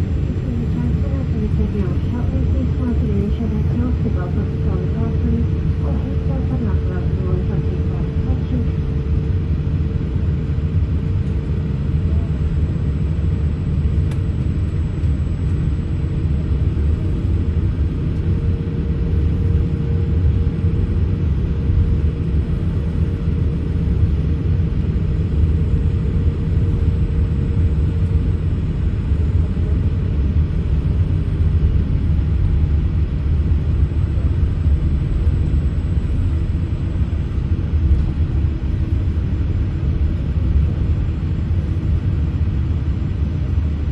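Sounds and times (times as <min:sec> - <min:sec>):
airplane cabin rumble: 0:00.0 - 0:43.9
faint steady hum: 0:00.0 - 0:43.9.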